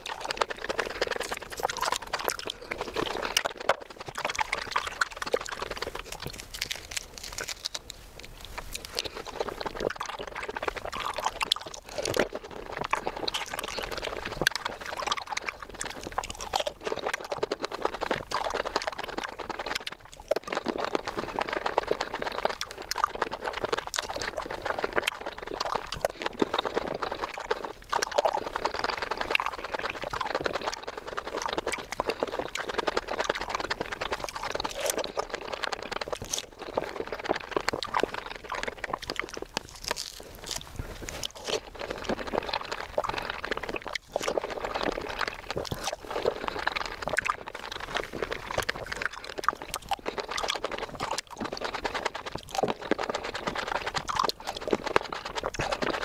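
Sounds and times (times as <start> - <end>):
juicy mouth sounds: 0.0 - 56.0
wet chewing and crunching fruit: 0.0 - 56.0.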